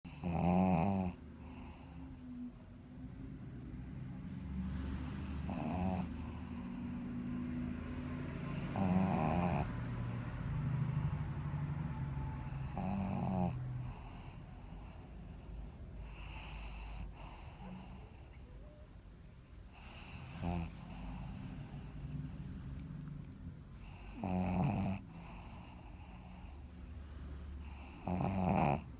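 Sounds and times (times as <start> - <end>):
dog snoring: 0.0 - 2.7, 3.7 - 23.1, 23.8 - 28.9.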